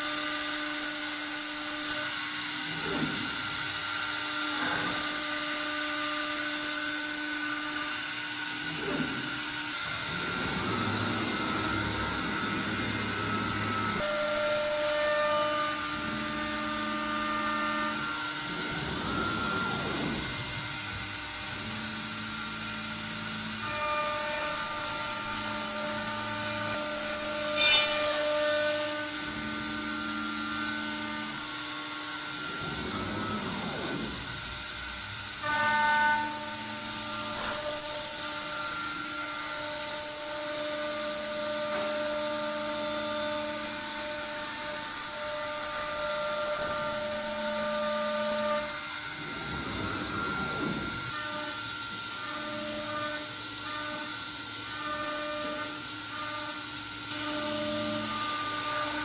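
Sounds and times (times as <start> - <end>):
router bit cutting wood: 0.0 - 59.0
router spindle humming: 0.0 - 59.0.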